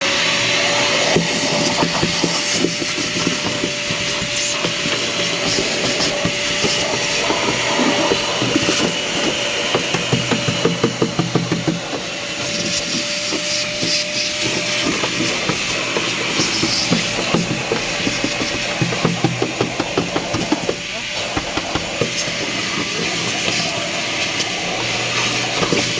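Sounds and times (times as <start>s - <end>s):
vacuum cleaner running: 0.0s - 25.9s.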